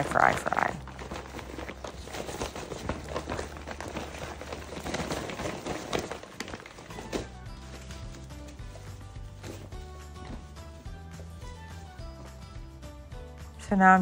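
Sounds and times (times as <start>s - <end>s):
paper bag rustling and crinkling: 0.0s - 12.6s.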